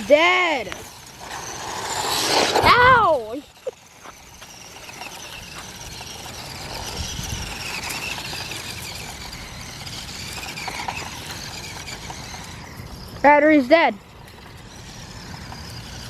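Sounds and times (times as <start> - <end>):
electric rc car motor whine: 0.0 - 16.0.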